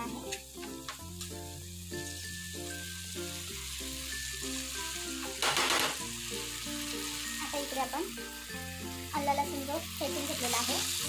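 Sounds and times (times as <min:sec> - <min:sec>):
slow background music: 0:00.0 - 0:11.0
vegetables sizzling in a frying pan: 0:00.0 - 0:11.0.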